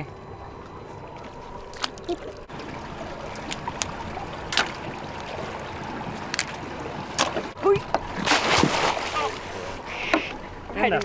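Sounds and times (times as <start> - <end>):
water lapping around boat: 0.0 - 11.0.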